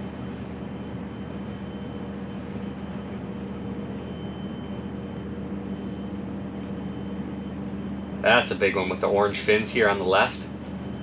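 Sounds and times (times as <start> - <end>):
faint high whine: 0.0 - 11.0
mechanical hum: 0.0 - 11.0.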